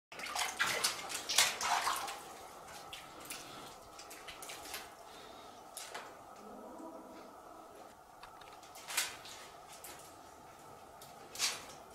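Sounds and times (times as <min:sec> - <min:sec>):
water splashes and drips in cave: 0:00.1 - 0:06.4, 0:08.2 - 0:11.9.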